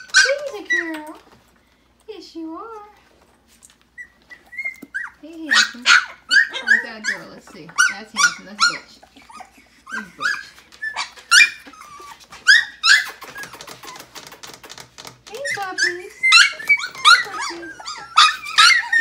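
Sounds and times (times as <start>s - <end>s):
puppies whining and yelping: 0.0s - 1.4s, 3.4s - 19.0s.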